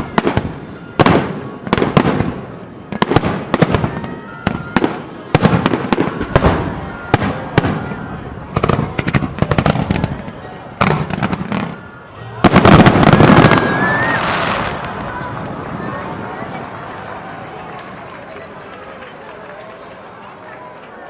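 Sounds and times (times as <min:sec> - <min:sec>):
fireworks bursting: 0:00.0 - 0:18.1.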